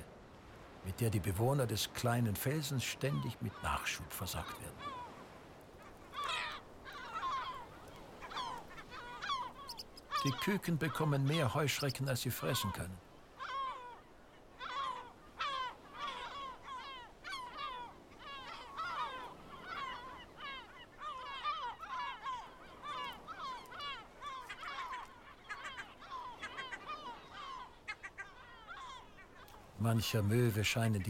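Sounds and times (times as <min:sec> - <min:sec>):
gulls calling: 0:00.7 - 0:31.0.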